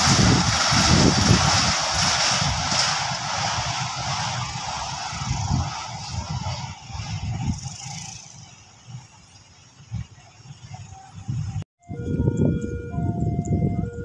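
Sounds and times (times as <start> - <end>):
train wheels rushing on rails: 0.0 - 11.6.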